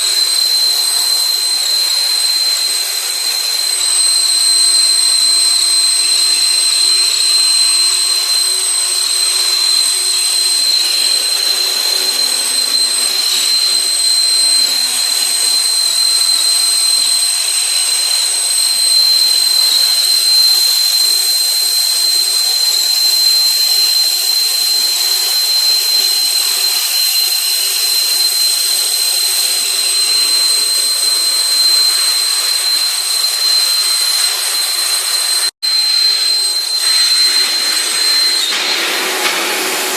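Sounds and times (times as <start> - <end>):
metal-cutting machine whine: 0.0 - 39.9.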